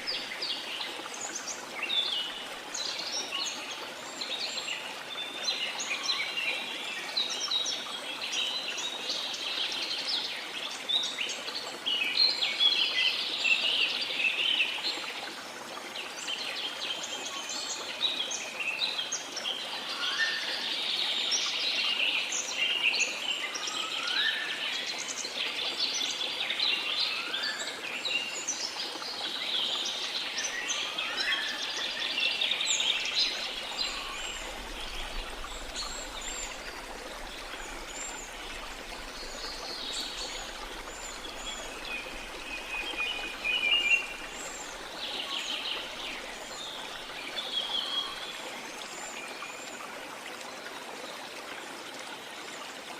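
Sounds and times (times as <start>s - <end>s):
river flowing: 0.0s - 52.9s.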